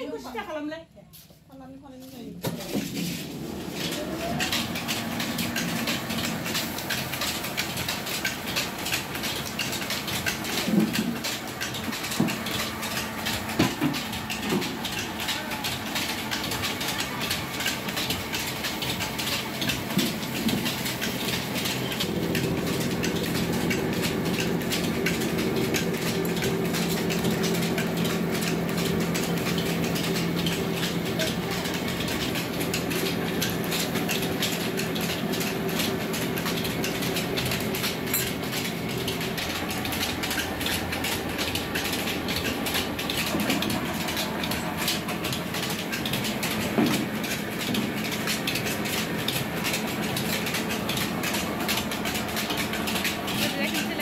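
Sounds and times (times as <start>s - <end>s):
rice milling machine rattling: 2.0s - 54.0s.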